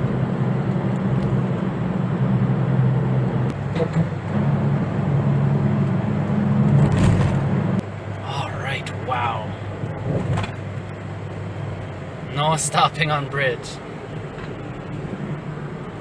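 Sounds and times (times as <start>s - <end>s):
tyre and road noise: 0.0s - 16.0s
van engine running: 0.0s - 16.0s.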